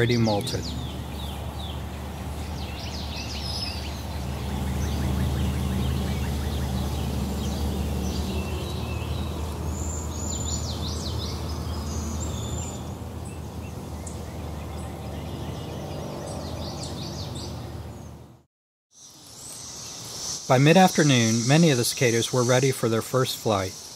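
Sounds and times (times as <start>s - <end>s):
songbirds chirping and singing: 0.0s - 18.3s, 19.1s - 23.9s.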